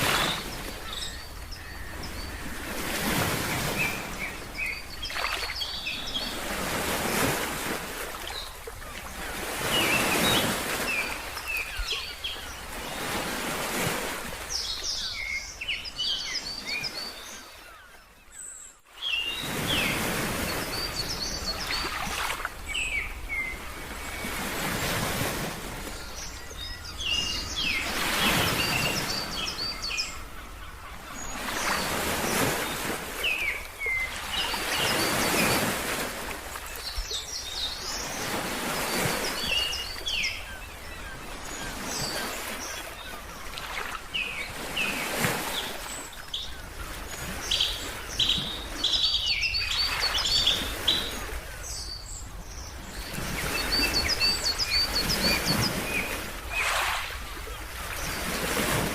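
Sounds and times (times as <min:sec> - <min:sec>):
small birds chirping: 0:00.0 - 0:06.5, 0:14.4 - 0:25.0, 0:25.8 - 0:58.6
ocean waves washing in: 0:00.0 - 0:15.6, 0:19.2 - 0:58.9.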